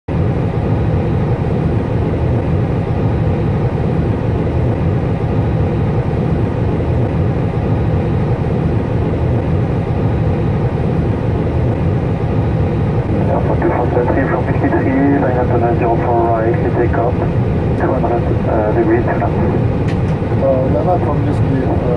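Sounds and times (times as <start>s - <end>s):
aircraft cockpit low rumble: 0.1s - 21.9s.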